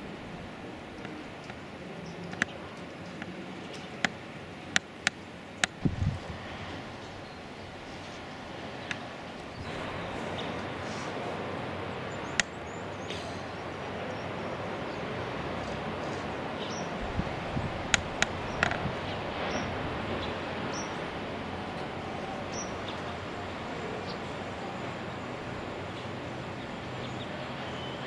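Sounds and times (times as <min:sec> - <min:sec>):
surf rushing: 0:00.0 - 0:28.0.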